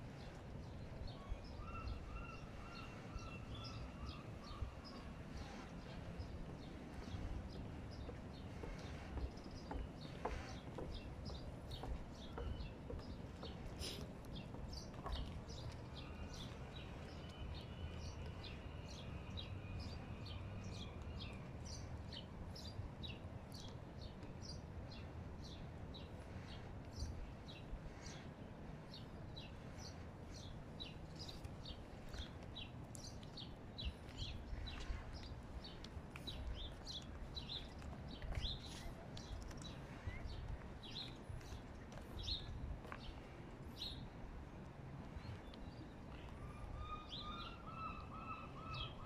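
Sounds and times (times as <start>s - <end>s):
small birds chirping: 0.2s - 44.2s.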